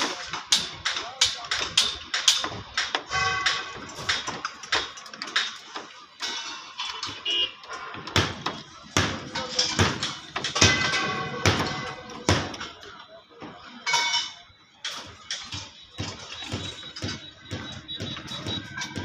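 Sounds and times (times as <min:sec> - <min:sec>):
construction knocks and clanks: 0:00.0 - 0:19.0.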